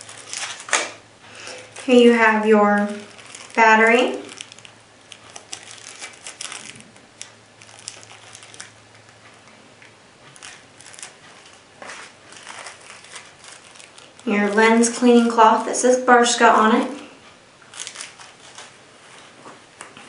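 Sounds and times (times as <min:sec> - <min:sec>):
plastic bag crinkling: 0:00.0 - 0:09.3, 0:10.2 - 0:20.0.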